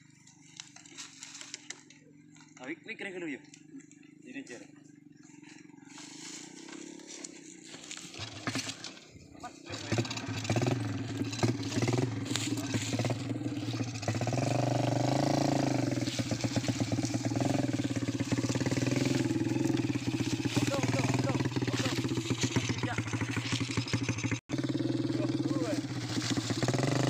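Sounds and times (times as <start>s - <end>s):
motorcycle engine running: 3.4s - 27.0s.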